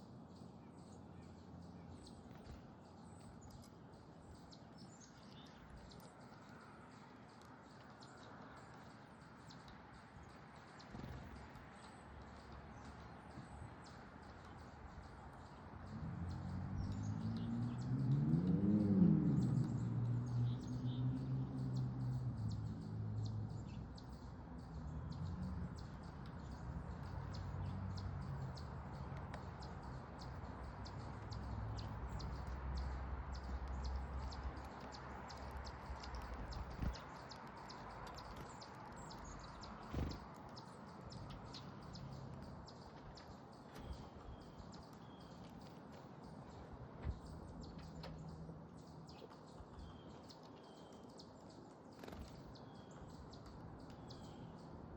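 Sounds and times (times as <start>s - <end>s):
birds tapping at feeder: 1.2s - 54.9s.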